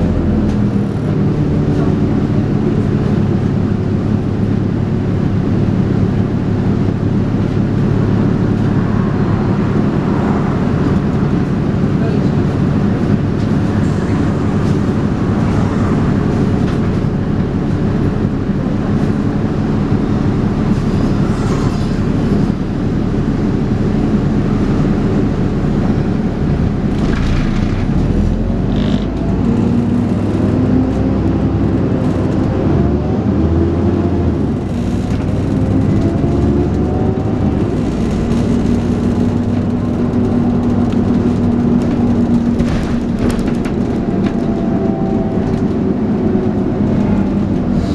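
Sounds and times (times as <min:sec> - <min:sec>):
bus engine whining under load: 0:00.0 - 0:47.9.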